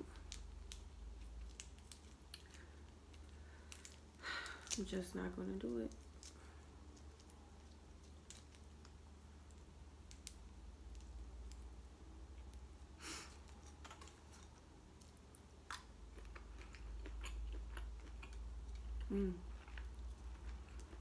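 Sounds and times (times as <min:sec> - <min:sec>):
soft chewing: 0:00.0 - 0:21.0.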